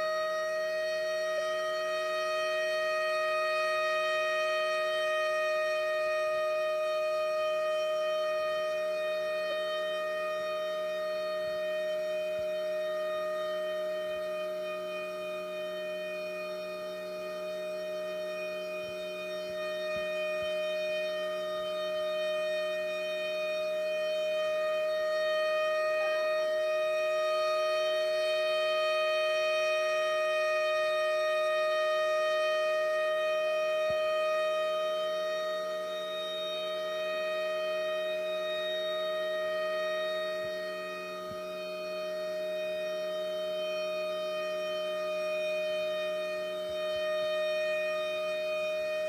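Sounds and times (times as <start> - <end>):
outdoor warning siren: 0.0 - 49.0.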